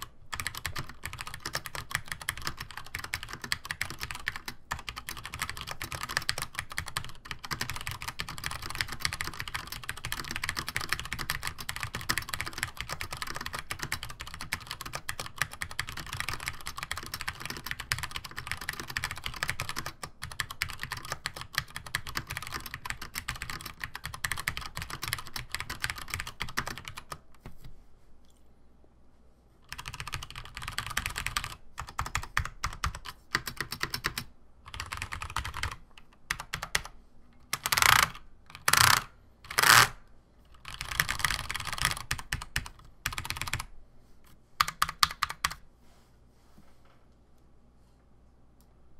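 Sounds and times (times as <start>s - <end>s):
fast keyboard typing: 0.0s - 27.2s, 29.7s - 36.9s, 37.5s - 39.9s, 40.6s - 43.7s, 44.6s - 45.6s.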